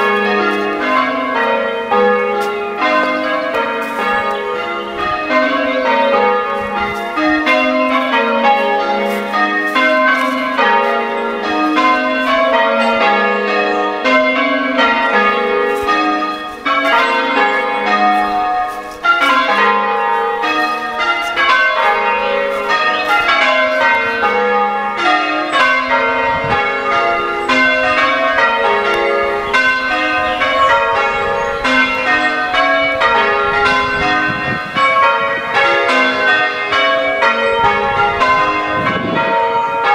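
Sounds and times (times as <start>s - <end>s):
church bells change-ringing: 0.0s - 39.9s.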